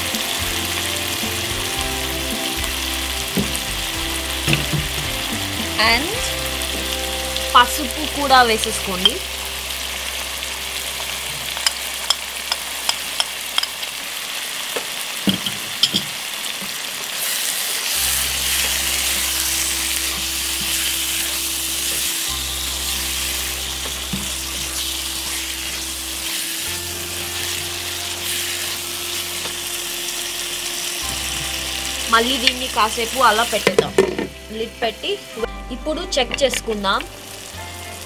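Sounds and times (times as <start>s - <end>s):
food sizzling in a wok: 0.0s - 38.0s.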